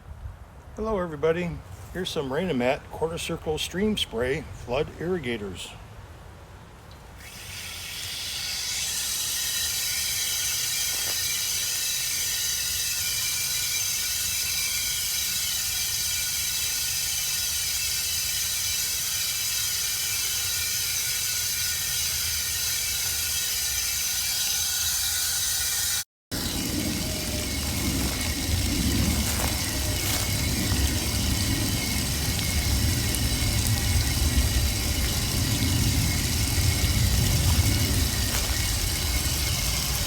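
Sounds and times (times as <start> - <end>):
sprinklers spraying water: 7.3 - 40.0.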